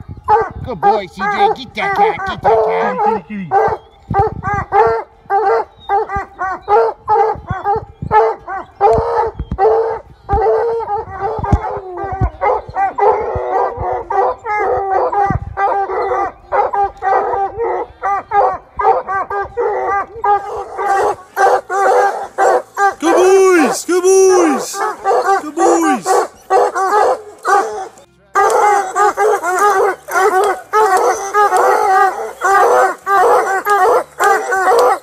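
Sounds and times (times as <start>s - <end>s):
hounds barking: 0.0s - 35.0s.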